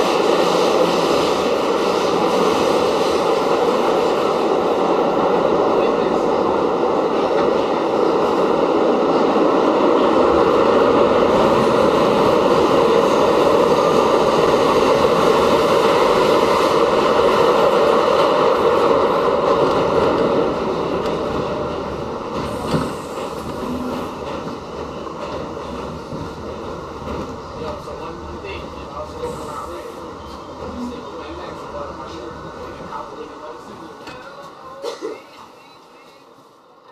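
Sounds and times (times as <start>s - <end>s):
subway train rumbling in tunnel: 0.0s - 36.9s.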